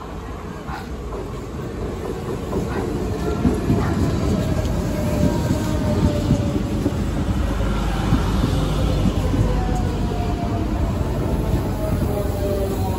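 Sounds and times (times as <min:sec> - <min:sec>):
passenger train rumbling on rails: 0:00.0 - 0:12.9.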